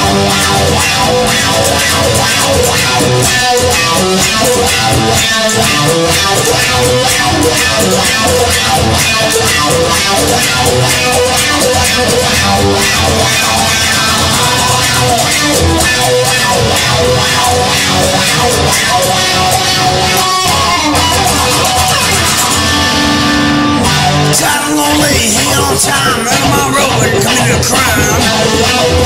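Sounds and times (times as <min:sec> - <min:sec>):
guitar rock music: 0:00.0 - 0:29.0.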